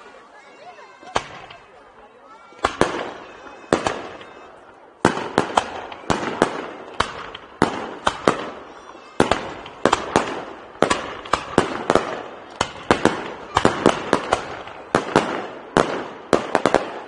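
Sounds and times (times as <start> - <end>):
fireworks bangs with echo: 1.0 - 17.0.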